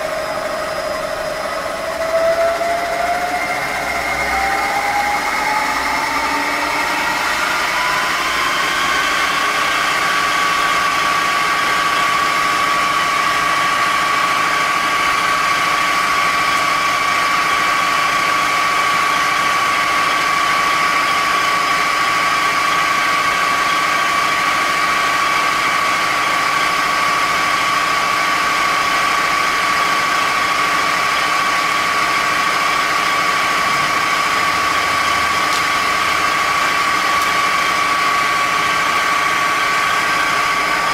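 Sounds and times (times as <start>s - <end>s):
milling machine spindle whine: 0.0s - 40.9s.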